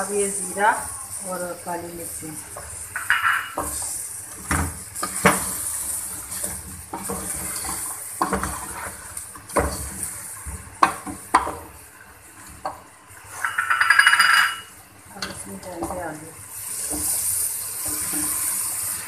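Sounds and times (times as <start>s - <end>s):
chicken sizzling: 0.0s - 19.0s.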